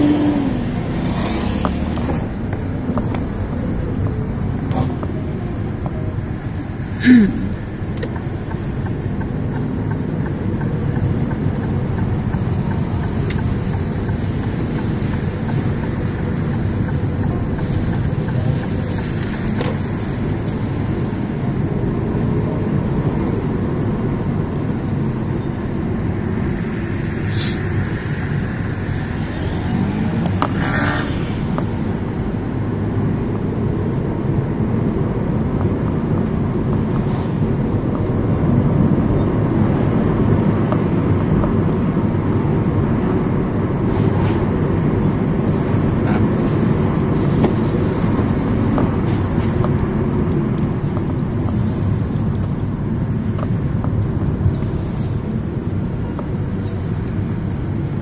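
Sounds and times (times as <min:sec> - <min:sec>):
car driving on wet road: 0:00.0 - 0:58.0.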